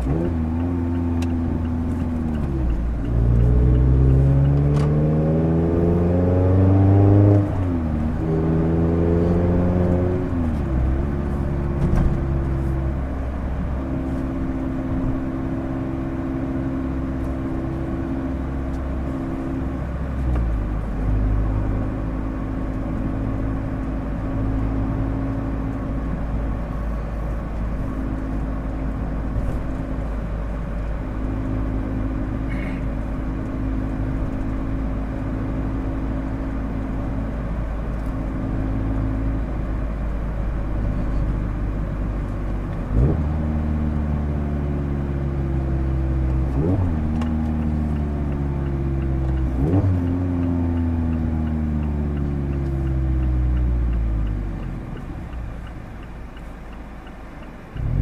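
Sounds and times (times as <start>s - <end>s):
car engine cruising: 0.0s - 58.0s
road and wind noise: 0.0s - 58.0s.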